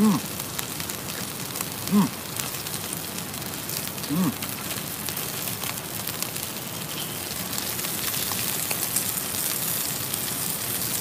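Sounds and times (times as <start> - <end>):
steak sizzling in frying pan: 0.3 - 11.0.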